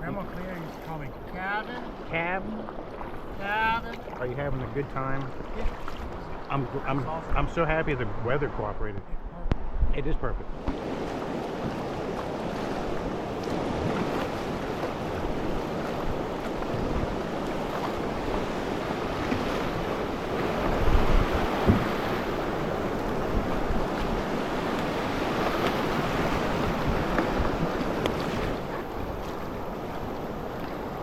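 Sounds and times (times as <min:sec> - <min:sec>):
river water rushing and splashing: 0:00.0 - 0:08.8, 0:10.4 - 0:31.0
wind buffeting microphone: 0:02.8 - 0:31.0.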